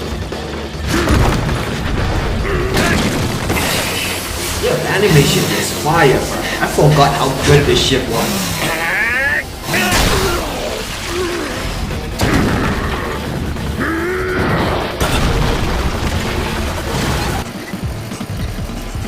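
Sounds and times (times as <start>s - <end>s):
fight scene music: 0.0s - 19.0s.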